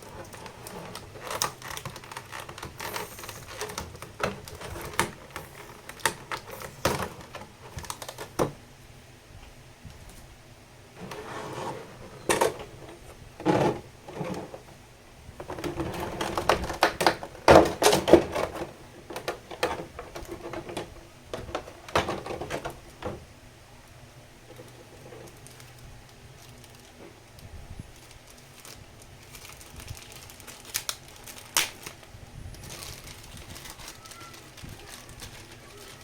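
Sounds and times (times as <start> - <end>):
cardboard and plastic packaging rustling: 0.0 - 8.7, 10.9 - 23.3, 24.4 - 36.0.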